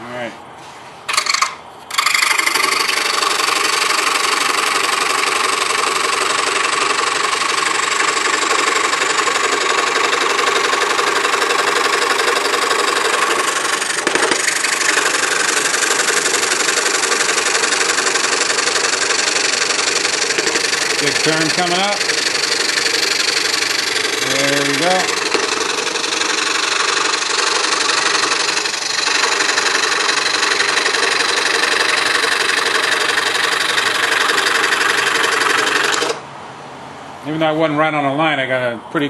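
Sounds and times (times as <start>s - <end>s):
scroll saw cutting wood: 1.1s - 36.2s.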